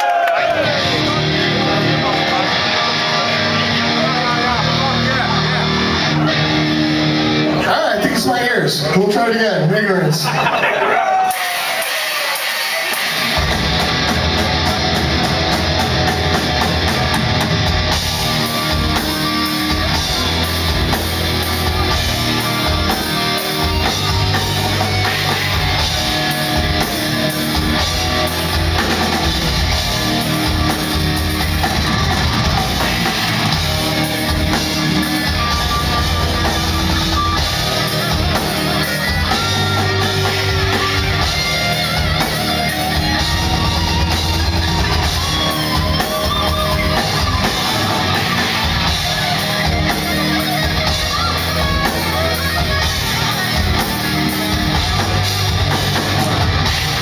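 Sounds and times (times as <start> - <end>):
metal band playing live: 0.0 - 57.0.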